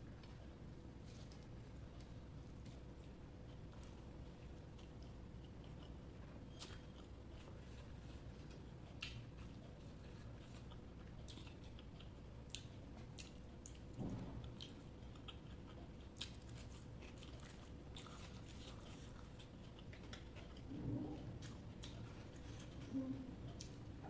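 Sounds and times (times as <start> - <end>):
person chewing food: 0.1 - 24.0.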